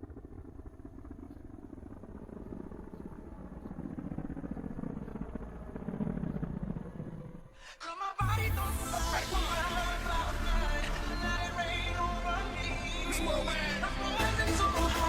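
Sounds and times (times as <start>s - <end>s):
low pulsing mechanical drone: 0.0s - 7.6s, 8.2s - 15.0s.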